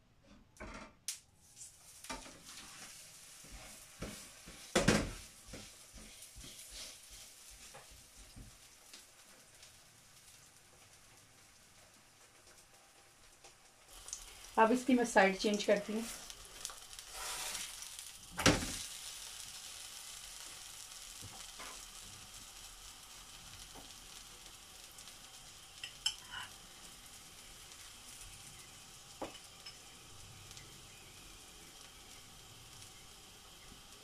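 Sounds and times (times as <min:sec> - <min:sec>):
flatbread sizzling on griddle: 0:01.4 - 0:34.0.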